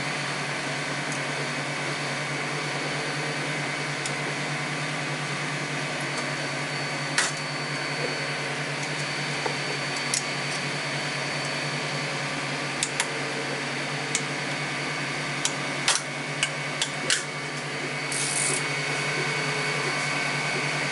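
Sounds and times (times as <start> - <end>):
printer fan hum: 0.0 - 20.9.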